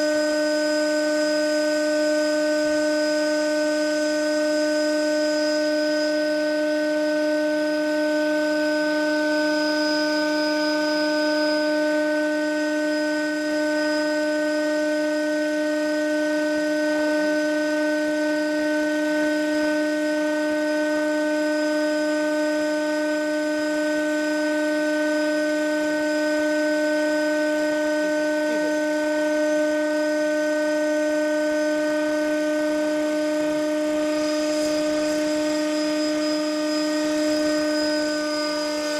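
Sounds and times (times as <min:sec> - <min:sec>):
centrifuge high-pitched hum: 0:00.0 - 0:38.9.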